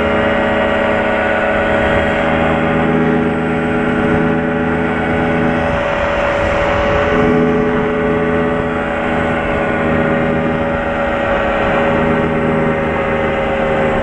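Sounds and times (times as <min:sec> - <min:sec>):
aircraft engine and propeller hum: 0:00.0 - 0:14.0.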